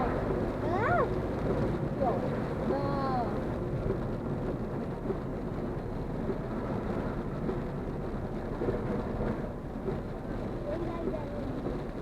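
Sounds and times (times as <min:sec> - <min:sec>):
heavy rain on car body: 0:00.0 - 0:12.0
tyre noise on wet road: 0:00.0 - 0:12.0.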